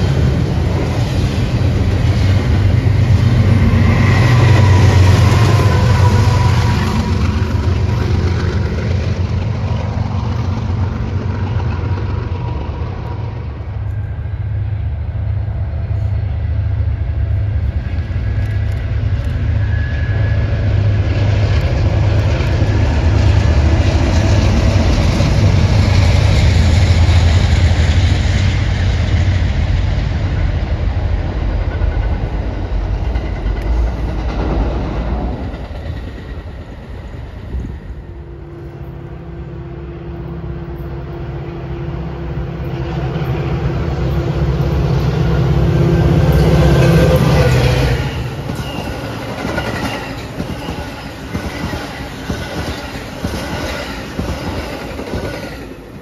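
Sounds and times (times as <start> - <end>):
wheels on rails: 0.0 - 38.0, 42.5 - 56.0
diesel locomotive engine drone: 0.0 - 56.0
freight locomotives rumbling: 0.0 - 56.0.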